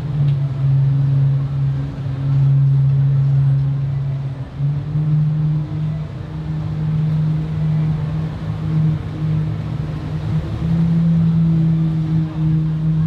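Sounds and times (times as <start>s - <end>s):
outboard motors idling: 0.0s - 13.0s.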